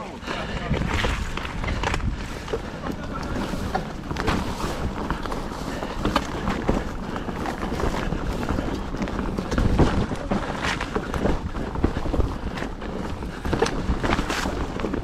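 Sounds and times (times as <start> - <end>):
bike tyres rolling on dirt: 0.0 - 15.0
bike knocks and rattles: 0.2 - 15.0.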